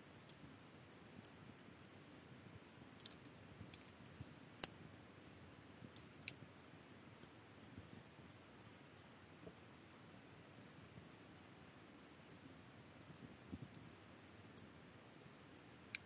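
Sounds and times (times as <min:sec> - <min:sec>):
rustle of flame: 0:00.0 - 0:16.0
wood fire crackling: 0:00.0 - 0:16.0.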